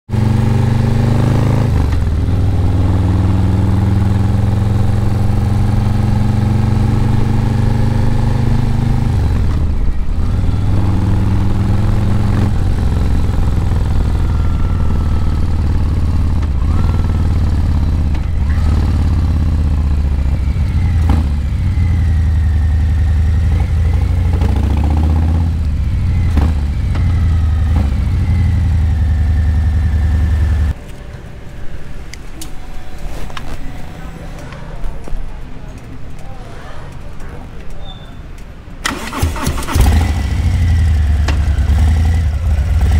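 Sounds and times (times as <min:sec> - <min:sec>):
motorcycle engine running: 0:00.1 - 0:30.8, 0:38.9 - 0:42.9.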